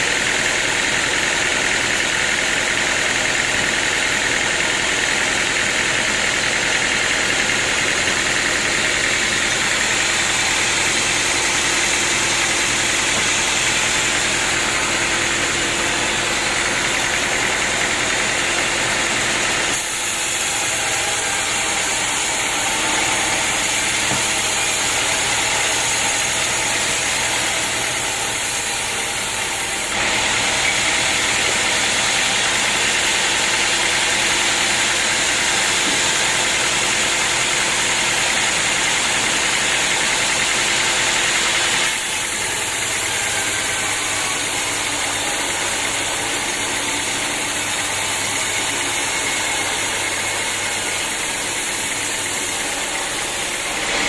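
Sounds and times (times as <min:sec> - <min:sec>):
sawmill machinery droning: 0:00.0 - 0:54.0.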